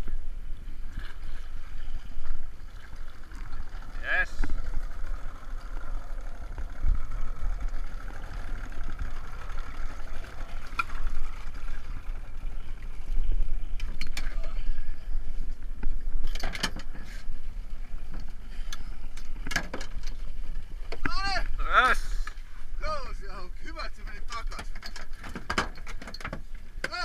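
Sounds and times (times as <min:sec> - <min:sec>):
wind rumble on microphone: 0:00.0 - 0:21.6.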